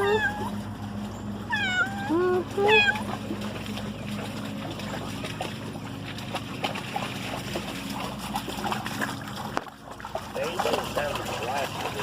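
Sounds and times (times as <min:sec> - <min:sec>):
low motor hum: 0:00.0 - 0:12.0
small splashes and ticks: 0:00.0 - 0:12.0
water trickling: 0:00.0 - 0:12.0.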